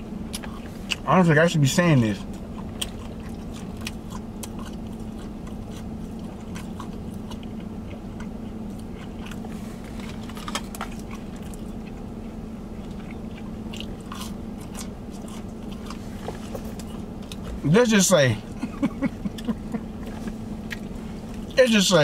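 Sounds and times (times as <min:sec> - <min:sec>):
low hum: 0:00.0 - 0:22.0
person chewing food: 0:00.2 - 0:01.0, 0:02.1 - 0:17.6, 0:18.4 - 0:21.6.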